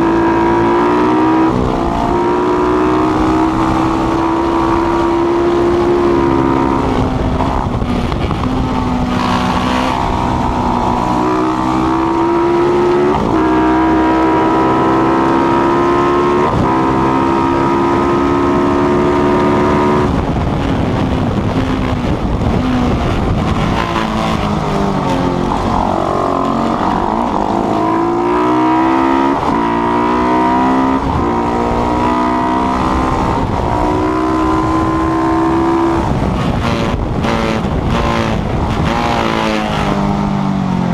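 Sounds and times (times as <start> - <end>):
race motorcycle engine shifting gears: 0.0 - 40.9.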